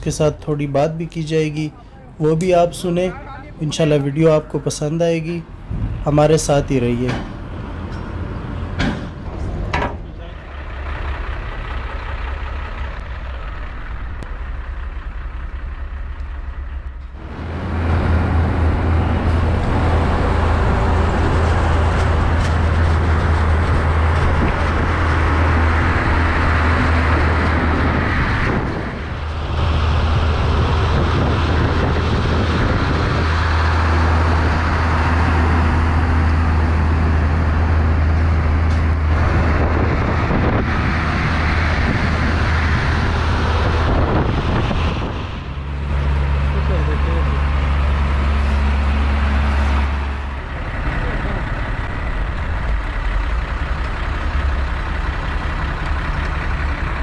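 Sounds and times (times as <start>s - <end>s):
road and wind noise: 0.0s - 57.0s
truck diesel engine drone: 0.0s - 57.0s.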